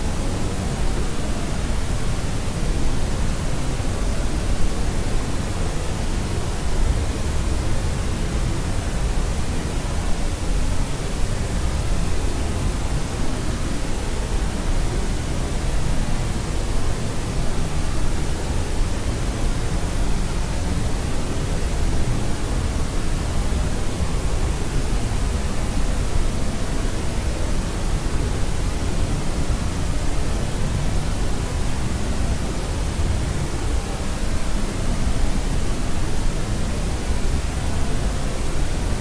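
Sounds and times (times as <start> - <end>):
white noise hiss: 0.0 - 39.0.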